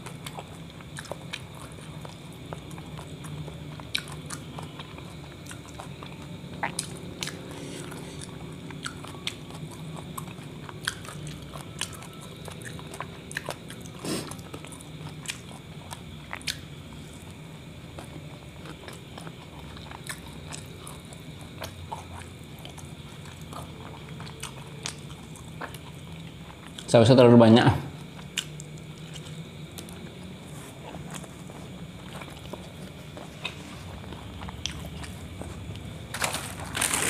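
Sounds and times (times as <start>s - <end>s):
chewing and biting food: 0.0s - 26.9s, 28.0s - 37.0s
low steady hum: 0.0s - 37.0s.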